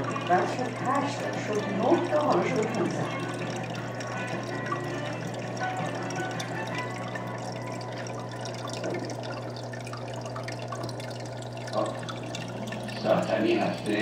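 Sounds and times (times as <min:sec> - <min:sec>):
aquarium filter hum: 0:00.0 - 0:14.0
water trickling and splashing: 0:00.0 - 0:14.0.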